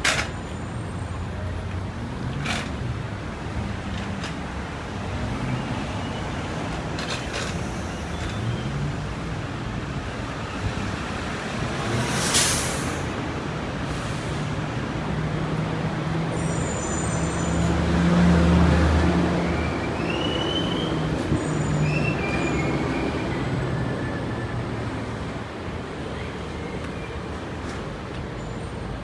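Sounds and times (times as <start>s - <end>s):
city street traffic: 0.0s - 29.0s
heavy vehicle engine: 0.0s - 29.0s.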